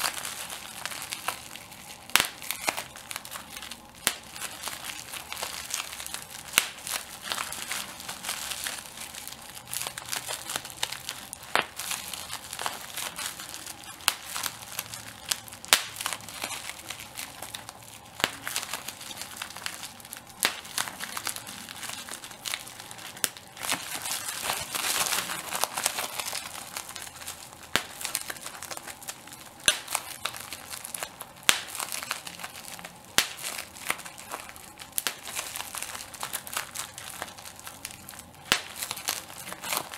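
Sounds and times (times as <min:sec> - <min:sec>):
bubble wrap bubbles popping: 0:00.0 - 0:39.9
bubble wrap crinkling: 0:00.0 - 0:39.9.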